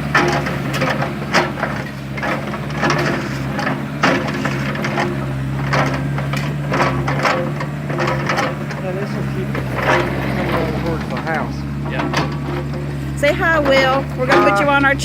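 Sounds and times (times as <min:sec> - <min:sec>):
crunching knocks and scrapes: 0:00.0 - 0:15.0
excavator diesel engine running: 0:00.0 - 0:15.0.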